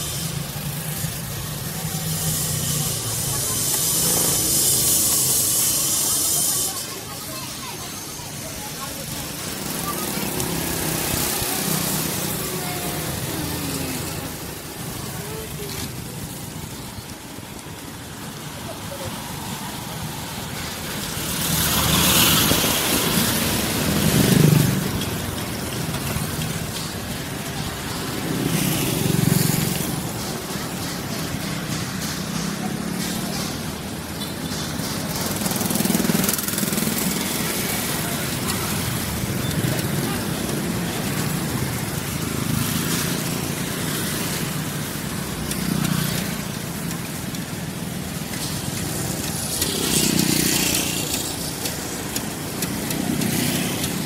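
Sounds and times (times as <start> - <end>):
people talking: 0.0 - 54.0
vehicles passing: 0.0 - 54.0.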